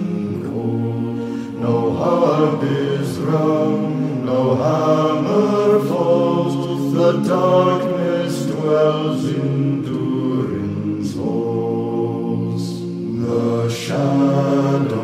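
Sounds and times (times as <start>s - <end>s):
male vocal ensemble singing: 0.0s - 15.0s.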